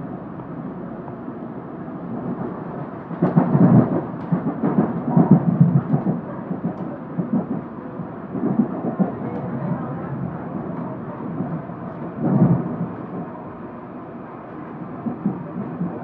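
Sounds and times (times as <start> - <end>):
muffled train rumbling: 0.0 - 16.0.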